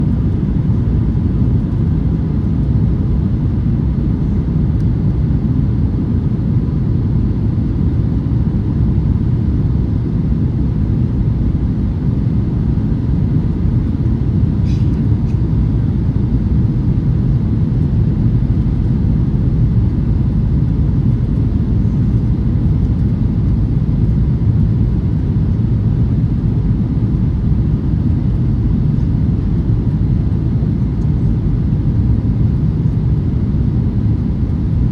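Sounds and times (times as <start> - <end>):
airliner cabin engine and airflow noise: 0.0 - 34.9.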